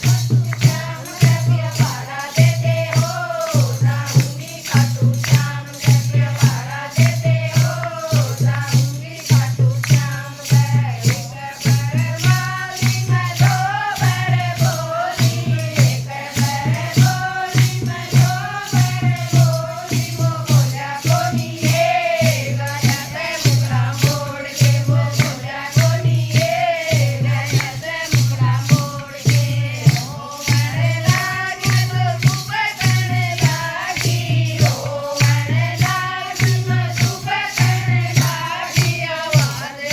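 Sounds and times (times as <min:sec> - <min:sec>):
percussion beat: 0:00.0 - 0:39.9.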